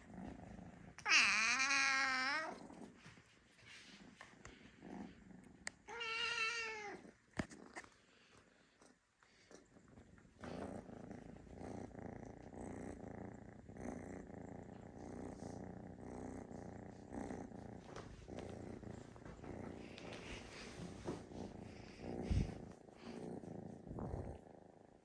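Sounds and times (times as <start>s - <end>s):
cat purring: 0.0s - 5.9s, 6.6s - 25.0s.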